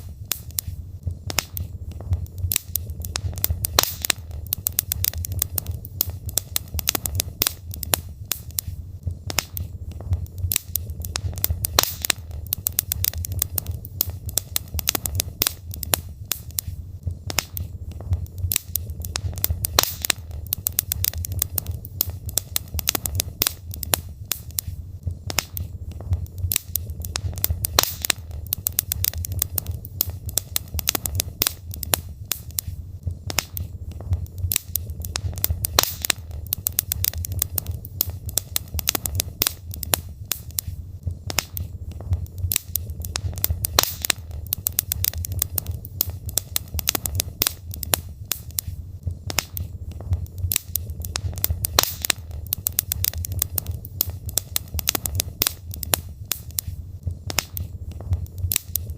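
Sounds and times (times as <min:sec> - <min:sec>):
low rumble of flames: 0:00.0 - 0:58.9
wood logs crackling and popping: 0:00.0 - 0:58.9.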